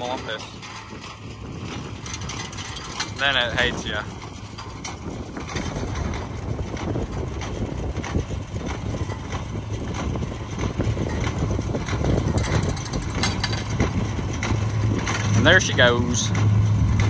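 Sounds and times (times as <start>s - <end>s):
farm machine engine running: 0.0s - 17.0s
light knocks and rattles: 0.0s - 17.0s.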